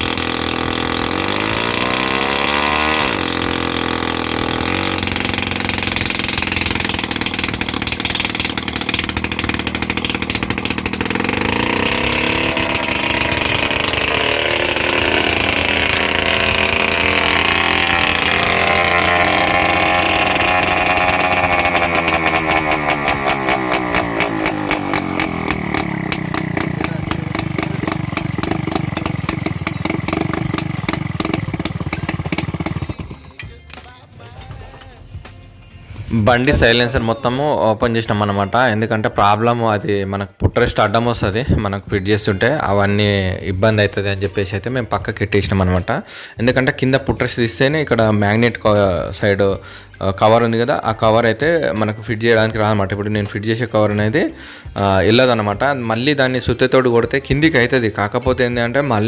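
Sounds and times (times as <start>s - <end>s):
moped two-stroke engine revving: 0.0s - 34.8s, 36.0s - 39.9s, 45.3s - 59.0s.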